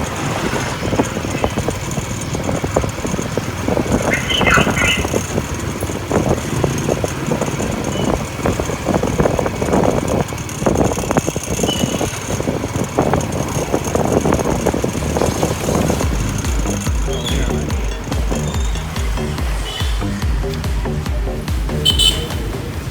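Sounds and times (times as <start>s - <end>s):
traffic rumble: 0.0s - 22.9s.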